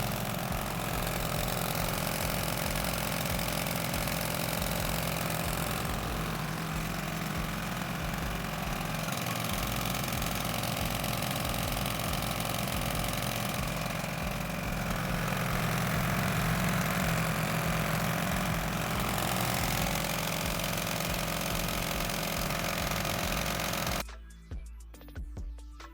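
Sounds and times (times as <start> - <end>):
water pump engine running: 0.0 - 24.0.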